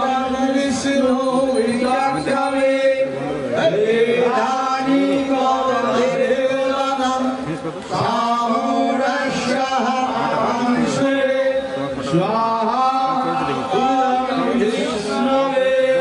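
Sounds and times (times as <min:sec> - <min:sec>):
men chanting in held tones: 0:00.0 - 0:16.0.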